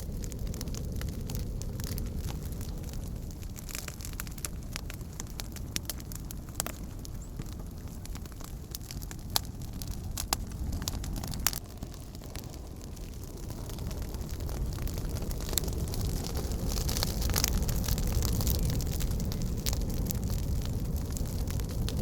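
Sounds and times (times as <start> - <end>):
campfire crackling: 0.0 - 22.0
sharp pops of fire: 0.0 - 22.0.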